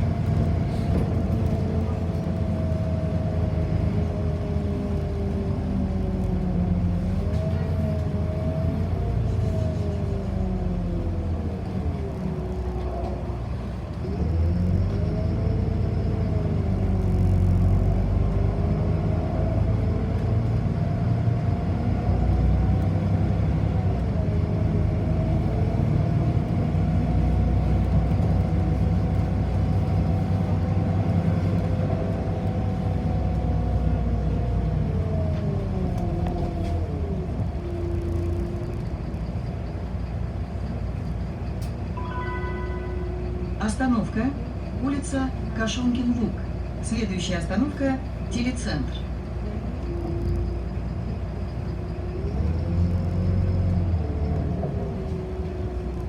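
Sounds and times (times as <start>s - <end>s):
bus motor whine: 0.0s - 56.0s
bus road rumble: 0.0s - 56.0s.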